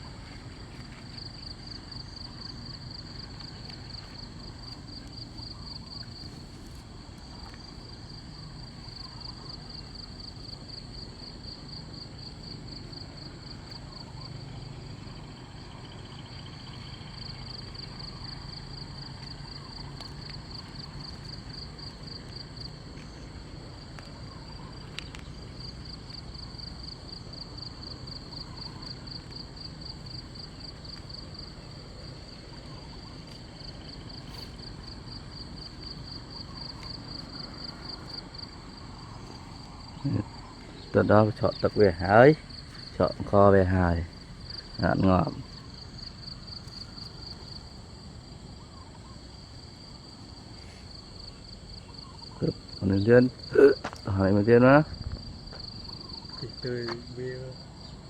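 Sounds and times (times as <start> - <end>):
insect pulsing trill: 0.0 - 58.0
low background rumble: 0.0 - 58.0.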